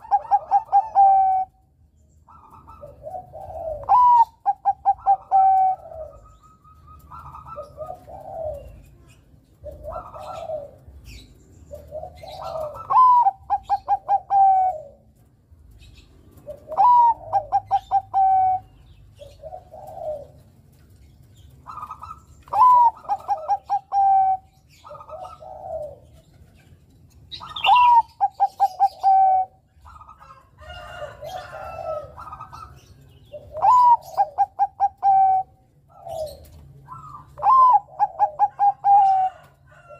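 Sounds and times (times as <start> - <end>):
soft dove coos: 0.0 - 1.6, 2.3 - 39.9
dove singing: 0.0 - 39.9.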